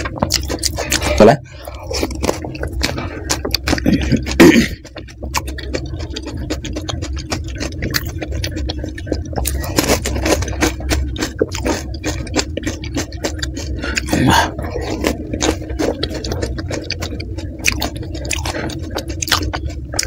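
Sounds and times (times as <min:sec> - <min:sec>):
crunching and chewing crisp shells: 0:00.0 - 0:20.0.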